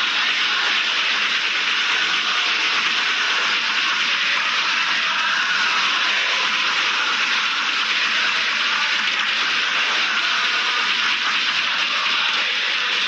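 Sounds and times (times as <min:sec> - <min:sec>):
stadium crowd cheering and chanting: 0:00.0 - 0:13.0.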